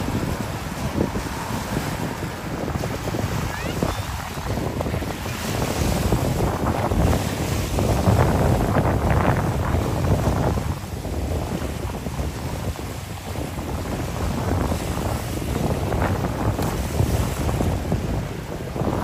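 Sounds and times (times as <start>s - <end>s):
waves washing on beach: 0.0s - 19.0s
wind buffeting microphone: 0.0s - 19.0s.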